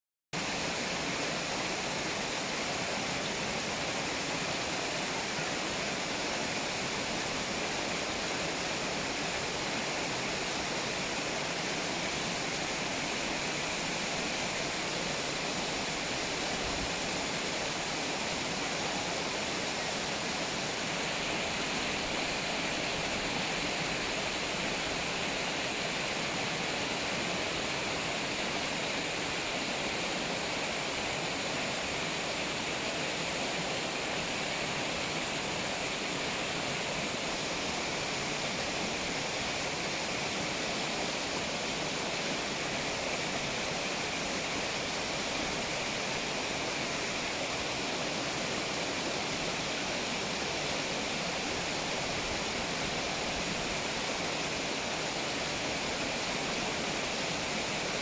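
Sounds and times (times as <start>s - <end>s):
waterfall rushing: 0.4s - 58.0s.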